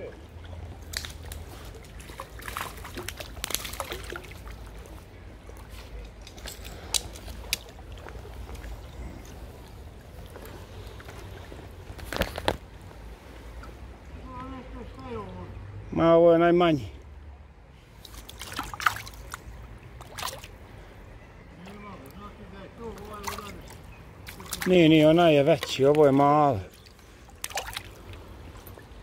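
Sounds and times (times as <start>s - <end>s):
river water splashing: 0.0s - 29.0s.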